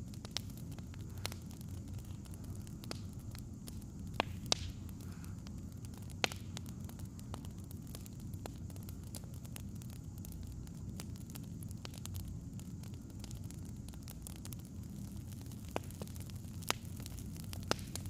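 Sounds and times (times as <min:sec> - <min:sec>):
fire pops and snaps: 0:00.0 - 0:18.0
firewood crackling: 0:00.0 - 0:18.0
low fire rumble: 0:00.0 - 0:18.0.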